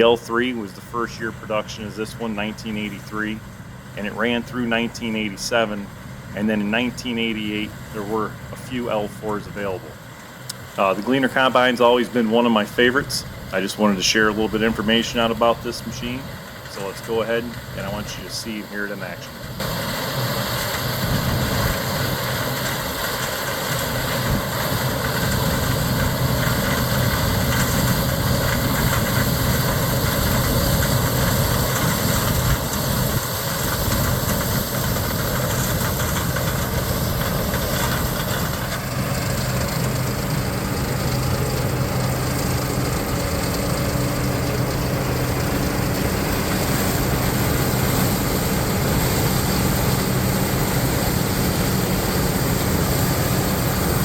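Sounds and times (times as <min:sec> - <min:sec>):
combine diesel engine droning: 0:00.0 - 0:54.0.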